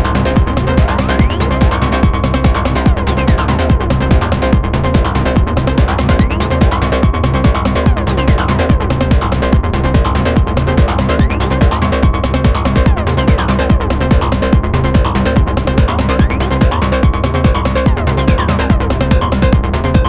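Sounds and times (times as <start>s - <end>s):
drum machine beat: 0.0s - 20.0s
synth bass line: 0.0s - 20.0s.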